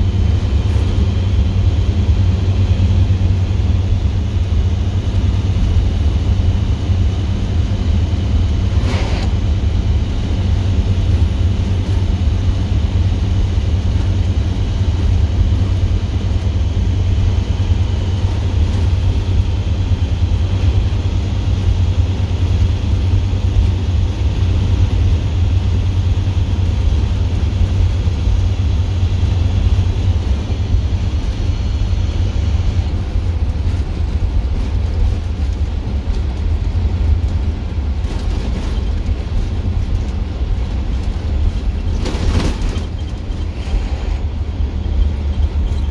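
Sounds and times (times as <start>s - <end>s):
bus diesel engine exhaust drone: 0.0s - 45.9s.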